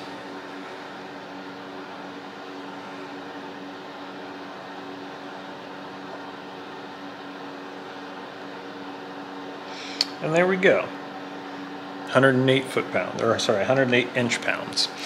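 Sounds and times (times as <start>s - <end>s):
steady electric hum: 0.0s - 15.0s.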